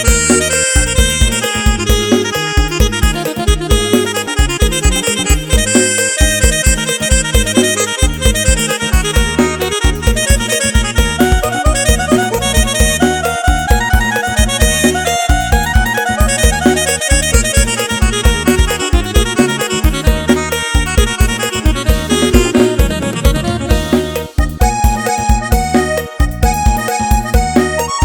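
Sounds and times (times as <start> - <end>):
electronic keyboard melody: 0.0 - 28.0
heavy bass beat: 0.0 - 28.0.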